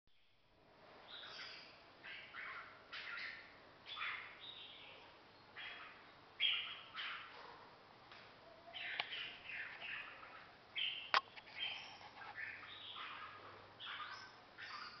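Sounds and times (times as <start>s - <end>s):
songbirds chirping: 0.1s - 15.0s.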